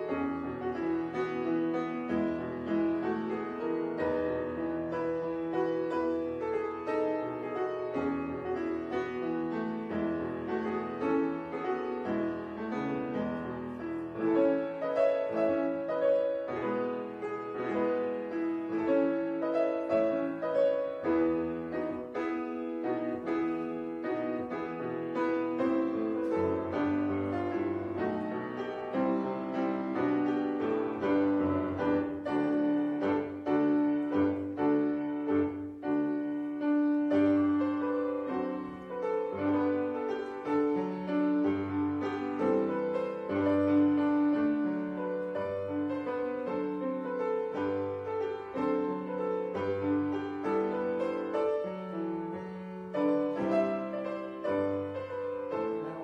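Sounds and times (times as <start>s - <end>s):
grand piano playing: 0.0s - 56.0s.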